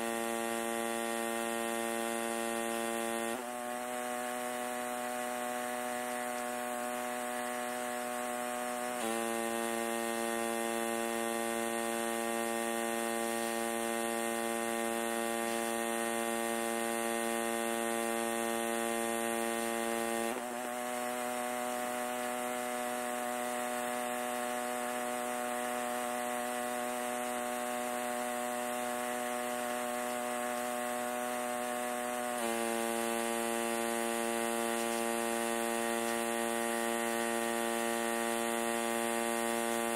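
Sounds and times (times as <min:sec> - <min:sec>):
pressure washer motor hum: 0:00.0 - 0:39.9
hissing water spray: 0:00.2 - 0:39.9.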